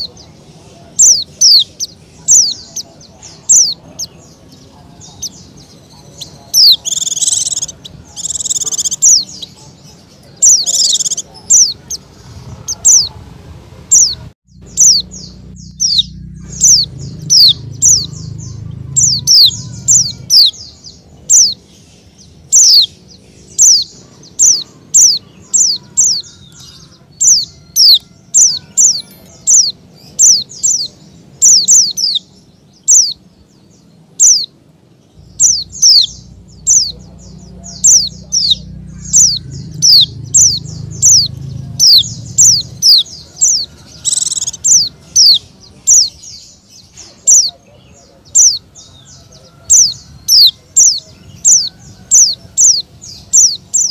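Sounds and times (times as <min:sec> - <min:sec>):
bird chirping: 0:00.0 - 0:13.2, 0:13.9 - 0:53.9.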